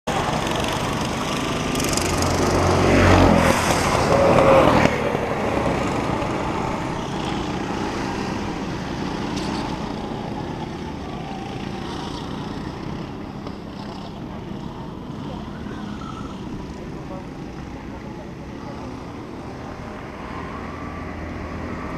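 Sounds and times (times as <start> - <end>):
go-kart engines running: 0.1 - 21.9
go-kart passing: 0.1 - 21.9.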